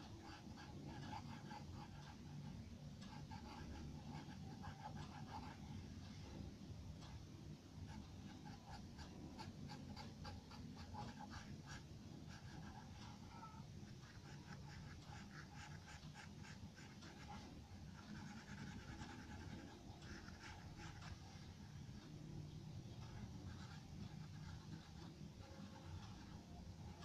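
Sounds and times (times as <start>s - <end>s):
charcoal pencil scratching on paper: 0.0s - 2.4s, 3.0s - 6.2s, 7.9s - 22.1s, 23.0s - 27.0s
low steady hum: 0.0s - 27.0s.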